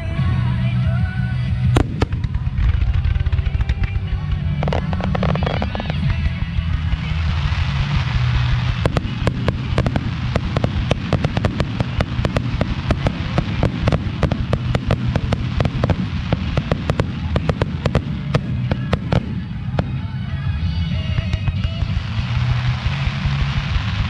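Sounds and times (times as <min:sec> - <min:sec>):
fireworks bangs: 0:01.6 - 0:24.0.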